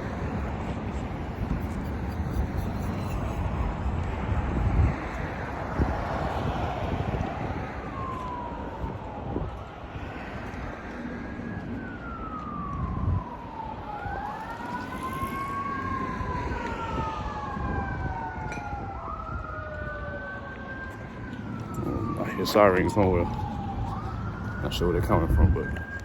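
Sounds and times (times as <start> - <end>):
emergency sirens wailing: 0.0 - 26.0
wind on microphone: 0.0 - 26.0.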